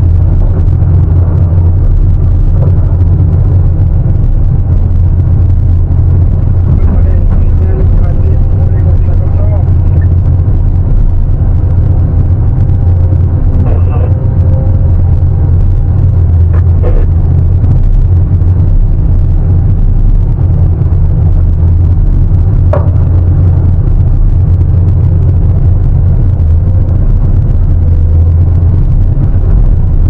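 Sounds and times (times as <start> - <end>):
excavator diesel engine drone: 0.0 - 30.0.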